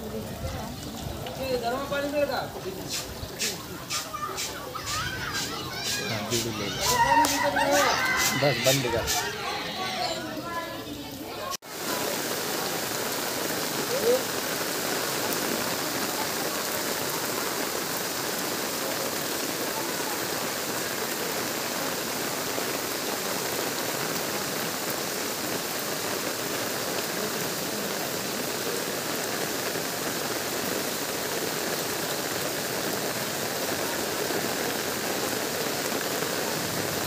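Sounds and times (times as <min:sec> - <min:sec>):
heavy rain on water: 0:00.0 - 0:37.0.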